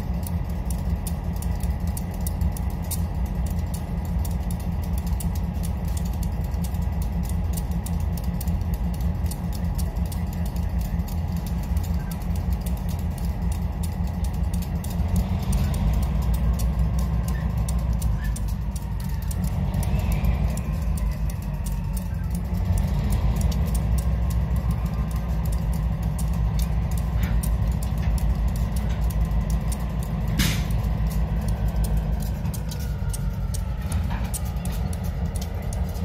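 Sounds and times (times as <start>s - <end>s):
diesel locomotives rumbling: 0.0s - 36.0s.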